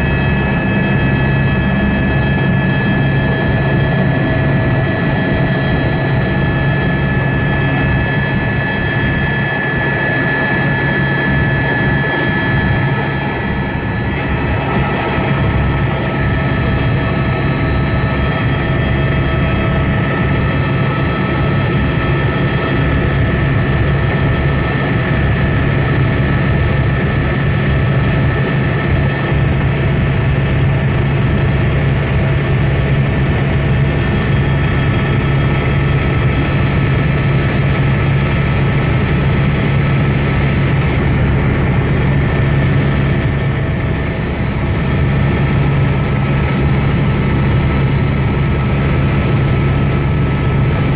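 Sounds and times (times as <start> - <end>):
helicopter engine and rotor: 0.0 - 50.9.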